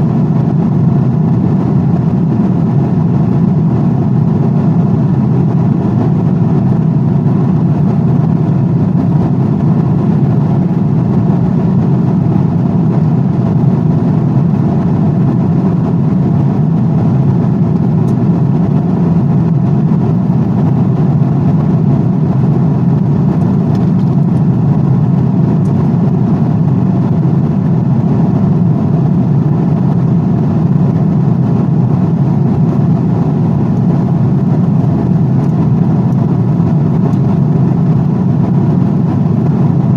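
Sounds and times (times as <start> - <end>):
airplane cabin low rumble: 0.0 - 39.9.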